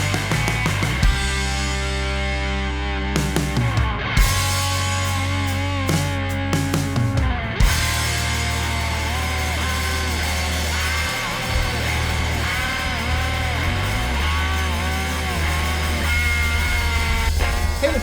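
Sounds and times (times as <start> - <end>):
bending guitar lead line: 0.0 - 18.0
distorted electric guitar: 0.0 - 18.0.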